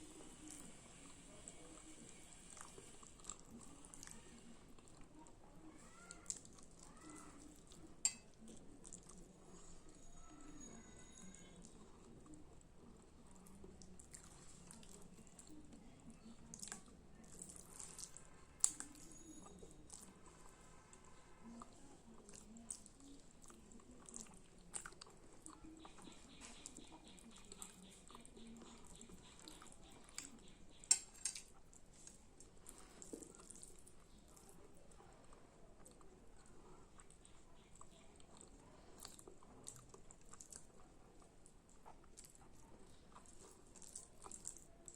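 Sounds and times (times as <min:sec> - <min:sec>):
wet chewing of food: 0:00.0 - 0:10.0, 0:10.7 - 0:44.9.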